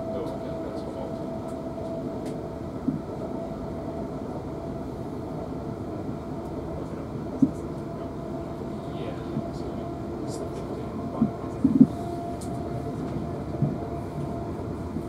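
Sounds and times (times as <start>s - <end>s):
constant hum: 0.0s - 15.0s
train wheels rumbling on rail: 0.0s - 15.0s.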